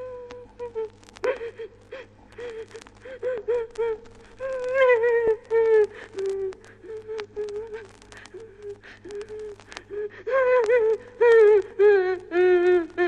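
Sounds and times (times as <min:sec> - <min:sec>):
high voice wavering cries: 0:02.4 - 0:13.0.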